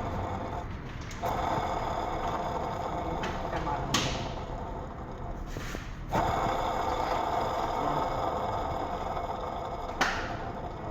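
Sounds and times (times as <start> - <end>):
car ac compressor running: 0.0 - 10.9.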